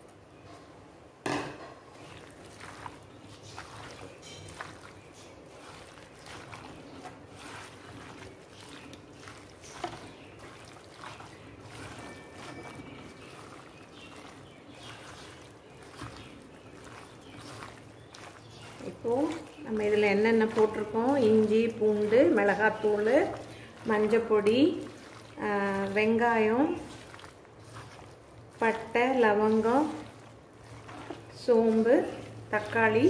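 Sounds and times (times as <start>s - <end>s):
hand squishing wet food: 1.8s - 33.0s.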